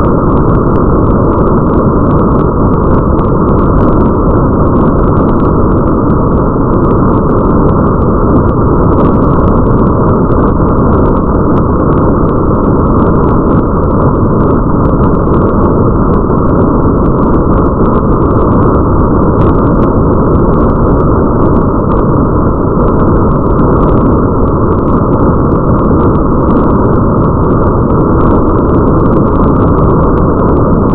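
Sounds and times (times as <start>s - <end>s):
muffled rain: 0.0s - 30.9s.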